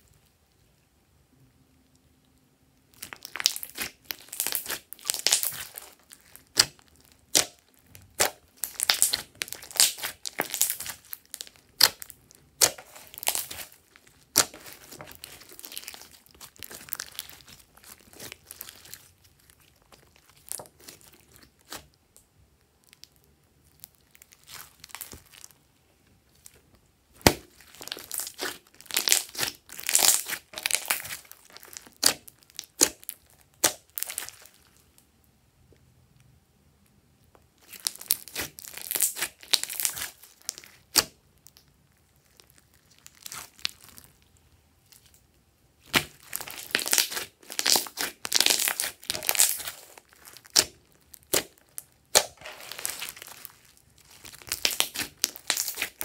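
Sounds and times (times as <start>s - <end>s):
slime squishing and crackling: 2.8s - 35.0s, 37.4s - 56.0s.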